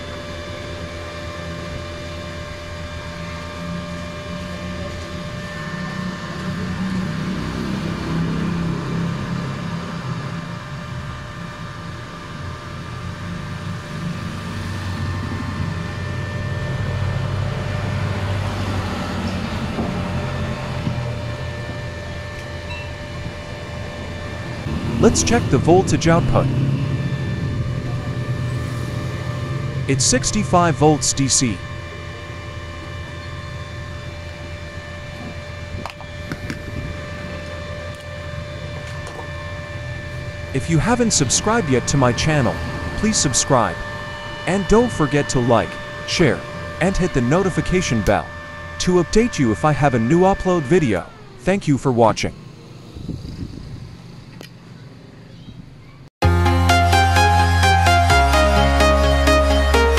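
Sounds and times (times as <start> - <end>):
thin electrical whine: 0.0 - 54.6
welding machine fan whirring: 0.0 - 54.9.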